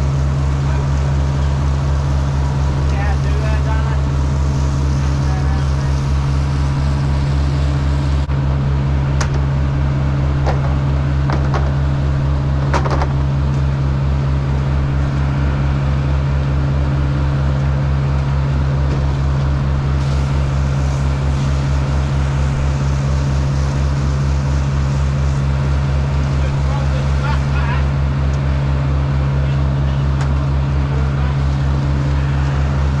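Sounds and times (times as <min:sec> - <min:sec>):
boat engine throbbing: 0:00.0 - 0:33.0.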